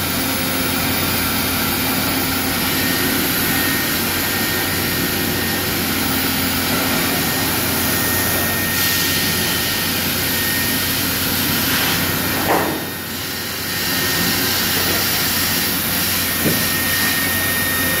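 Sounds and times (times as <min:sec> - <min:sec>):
cnc router whirring: 0:00.0 - 0:18.0.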